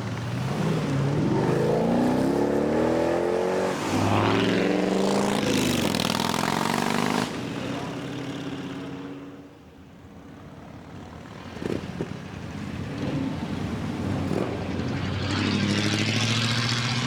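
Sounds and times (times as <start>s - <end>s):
car pulling away: 0.0s - 8.8s, 11.0s - 17.0s
car approaching: 0.0s - 17.0s.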